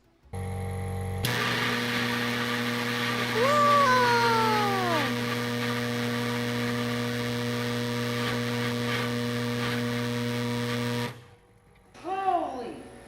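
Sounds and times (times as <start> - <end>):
microwave oven electrical buzz: 0.3 - 11.5.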